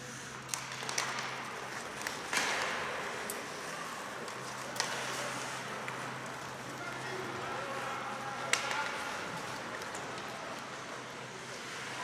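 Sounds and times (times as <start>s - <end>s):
hockey sticks clicking on puck: 0.0s - 12.0s
skates scraping ice: 0.0s - 12.0s.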